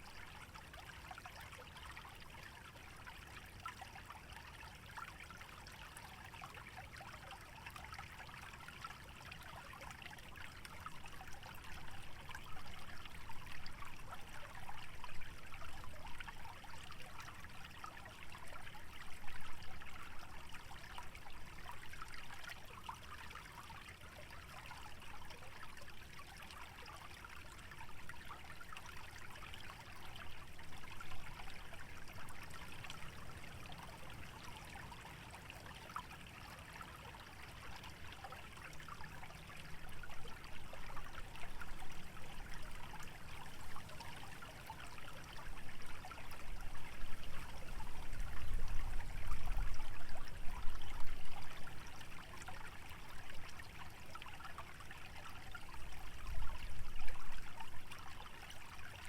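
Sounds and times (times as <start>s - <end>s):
stream trickling and splashing: 0.0s - 59.0s.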